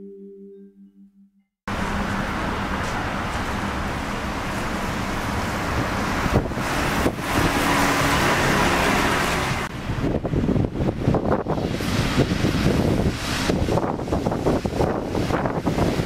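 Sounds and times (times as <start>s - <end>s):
bus engine running: 1.7s - 16.0s
tyre and road noise: 1.7s - 16.0s.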